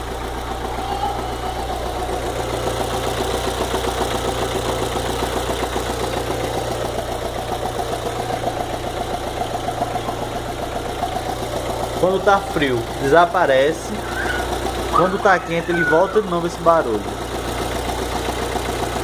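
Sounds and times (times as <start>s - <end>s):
car engine idling with ticking knock: 0.0s - 19.0s.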